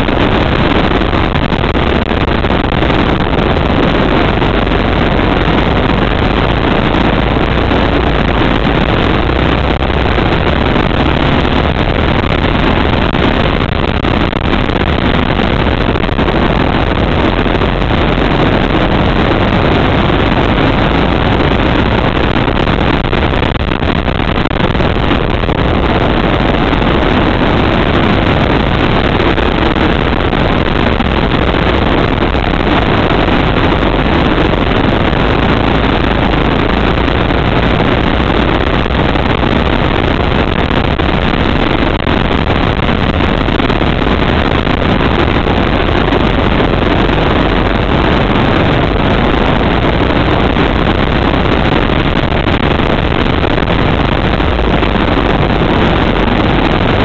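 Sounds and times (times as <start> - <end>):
go-kart engine racing: 0.0 - 57.0.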